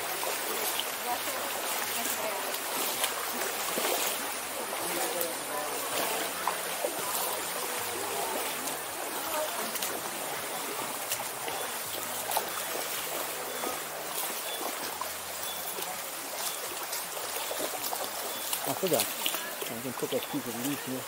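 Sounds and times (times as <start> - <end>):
stream water running: 0.0 - 21.0.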